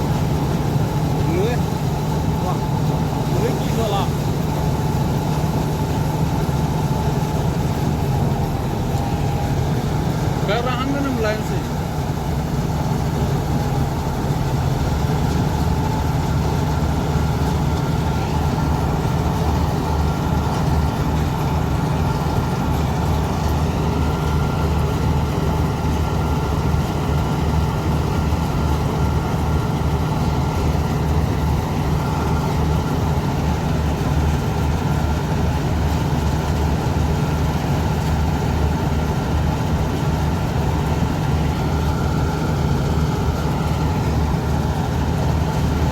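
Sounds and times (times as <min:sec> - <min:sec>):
harvester diesel engine running: 0:00.0 - 0:45.9.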